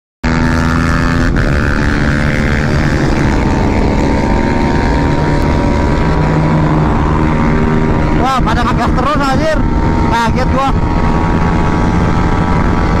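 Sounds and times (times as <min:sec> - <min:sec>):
scooter engine droning: 0:00.2 - 0:13.0.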